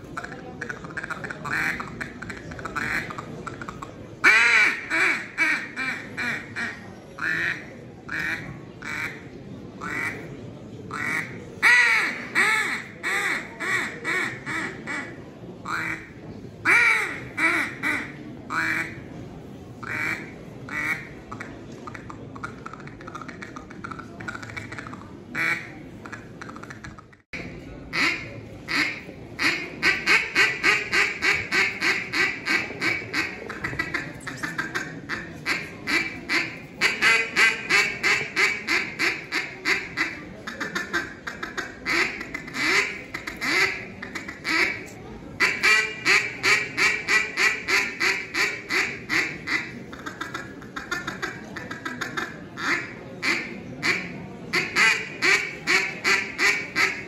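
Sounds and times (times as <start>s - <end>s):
duck call quacks: 0.2s - 9.2s, 9.8s - 10.2s, 10.9s - 15.1s, 15.7s - 19.0s, 19.8s - 27.1s, 28.0s - 44.8s, 45.4s - 57.0s.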